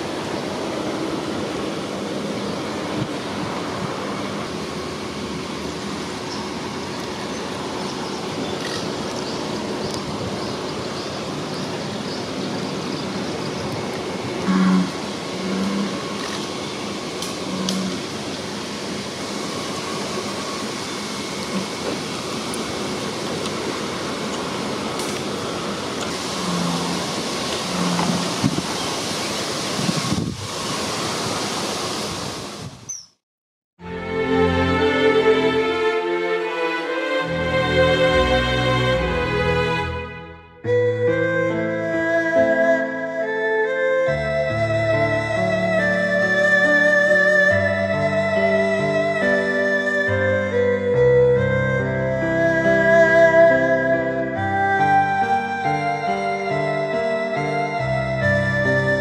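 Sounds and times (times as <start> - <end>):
outdoor background hiss: 0.0 - 33.2, 33.8 - 59.0.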